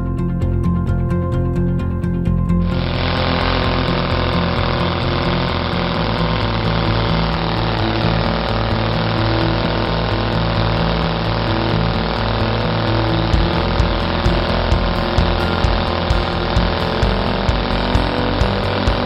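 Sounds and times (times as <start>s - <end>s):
model engine running with propeller: 2.6s - 19.0s.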